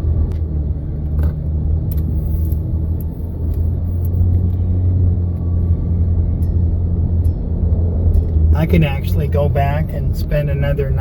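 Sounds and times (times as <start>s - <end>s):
minivan driving: 0.0s - 11.0s.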